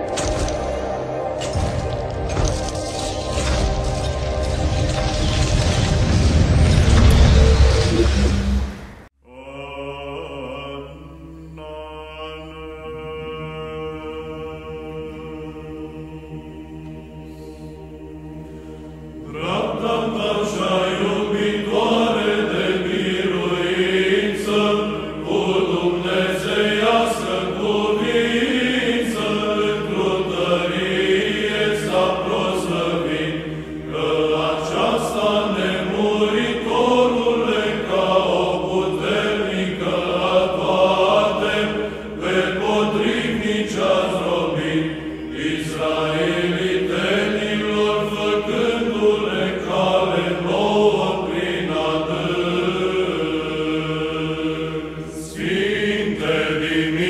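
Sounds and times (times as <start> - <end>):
voices singing church chant: 0.0 - 5.0, 7.8 - 57.0.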